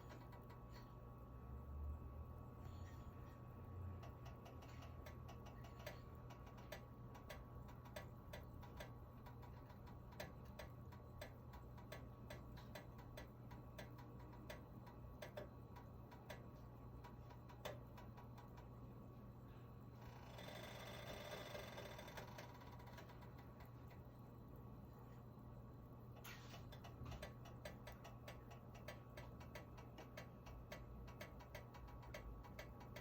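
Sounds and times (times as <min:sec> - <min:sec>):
faint ticking and clicking: 0:00.0 - 0:01.6, 0:02.4 - 0:33.0
low steady hum: 0:00.0 - 0:33.0.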